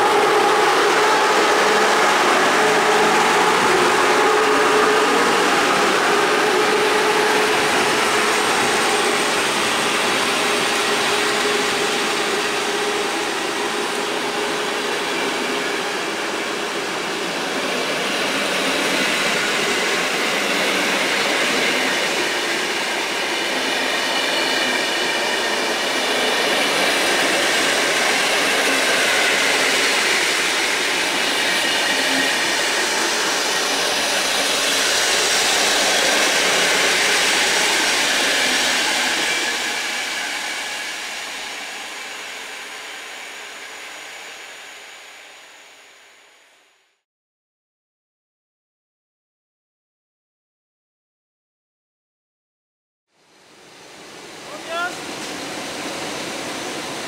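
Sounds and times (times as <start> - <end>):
train wheels on rails: 0.0 - 46.3, 53.8 - 57.0.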